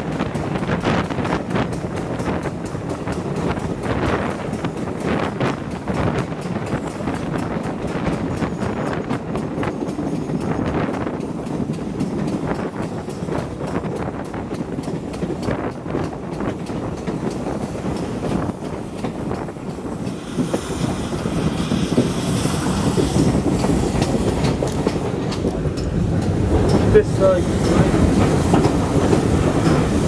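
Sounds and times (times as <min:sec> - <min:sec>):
train coaches rumbling: 0:00.0 - 0:30.0
wheels clicking over rail joints: 0:00.0 - 0:30.0
wind on microphone: 0:00.0 - 0:30.0.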